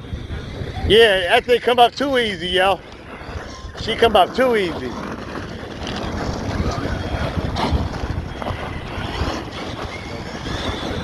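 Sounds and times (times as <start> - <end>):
rc trucks running on dirt: 0.0 - 11.0
wind buffeting microphone: 0.0 - 11.0.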